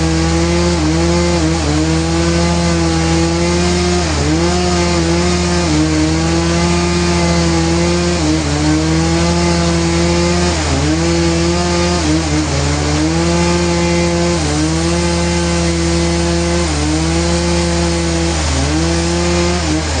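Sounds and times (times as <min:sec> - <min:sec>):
engine-driven saw cutting: 0:00.0 - 0:20.0.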